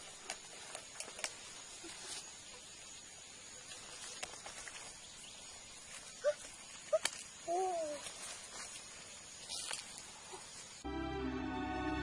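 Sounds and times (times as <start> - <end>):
rustles on dry leaf litter: 0.0 - 10.8.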